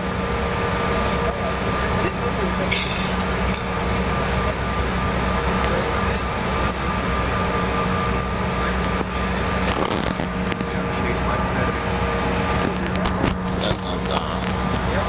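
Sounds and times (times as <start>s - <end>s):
faint steady whine: 0.0s - 15.0s
jet airliner cabin rumble: 0.0s - 15.0s.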